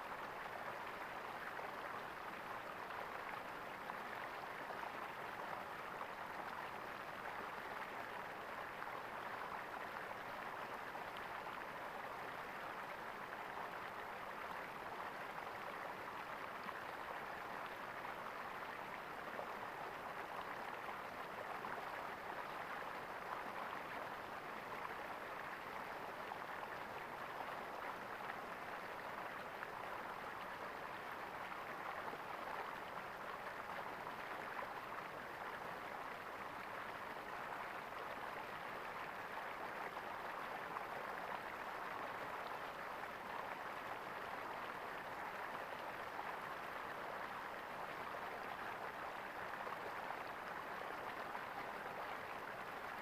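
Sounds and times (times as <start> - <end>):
water gurgling in a stream: 0.0 - 53.0.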